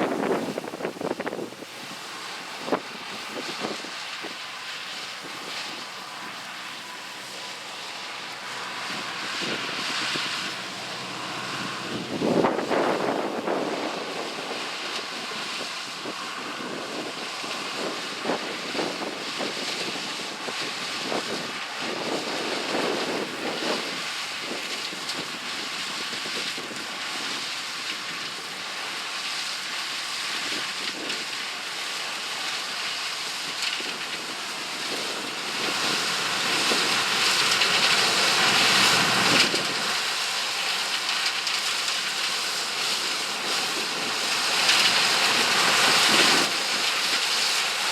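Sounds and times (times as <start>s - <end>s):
combine harvester running: 0.0s - 47.9s.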